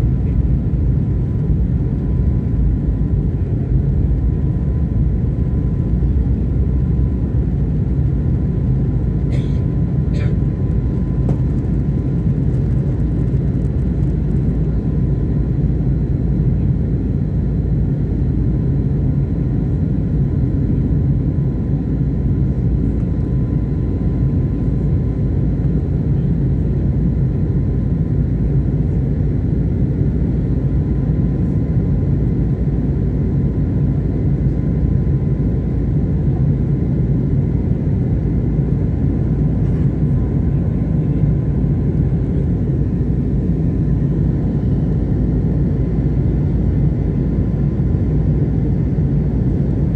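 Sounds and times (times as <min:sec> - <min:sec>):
jet engines and airflow rumble: 0:00.0 - 0:49.9.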